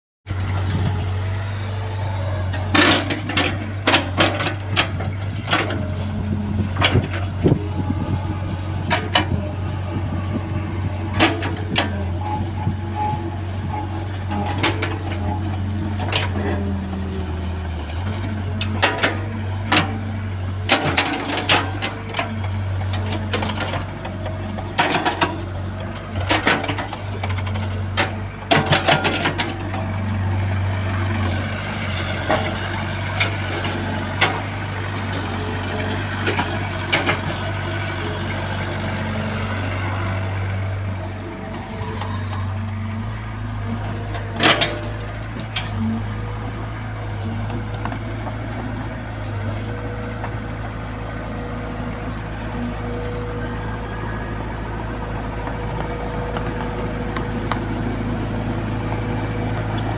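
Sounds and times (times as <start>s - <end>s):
excavator diesel engine running: 0.2s - 59.9s.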